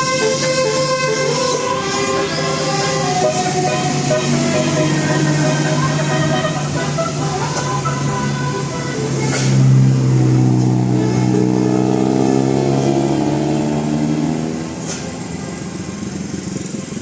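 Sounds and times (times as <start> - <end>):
bus going by: 0.0 - 17.0
multi-tone bus horn: 0.0 - 17.0.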